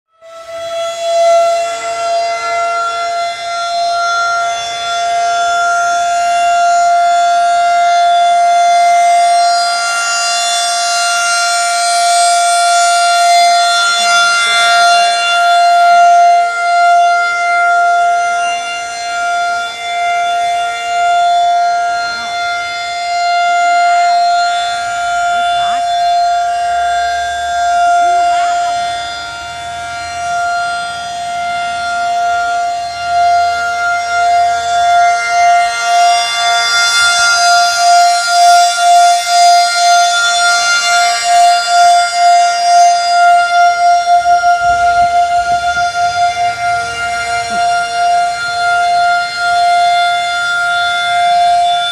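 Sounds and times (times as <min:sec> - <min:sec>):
siren steady tone: 0:00.1 - 0:51.9.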